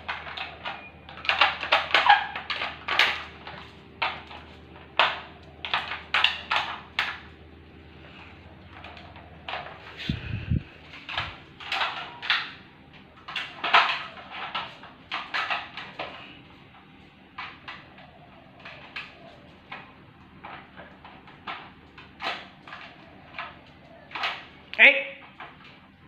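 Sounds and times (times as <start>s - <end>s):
plastic feeder clacking on tile: 0.0s - 7.3s, 10.9s - 16.3s, 17.3s - 26.0s.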